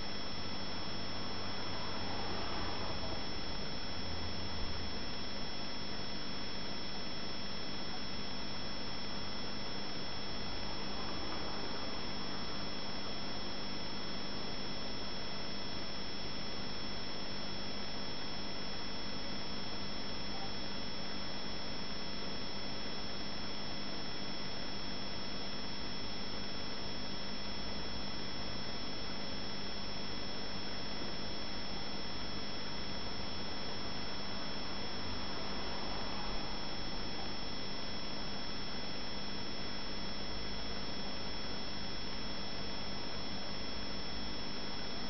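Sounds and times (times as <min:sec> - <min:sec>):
aquarium hum: 0:00.0 - 0:45.0.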